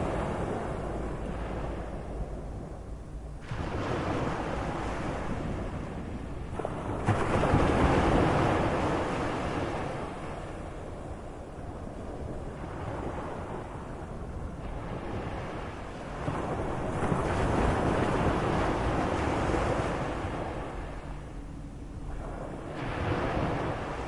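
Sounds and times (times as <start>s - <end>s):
low rumble of water: 0.0s - 24.0s
sea waves surging and ebbing: 0.0s - 24.0s.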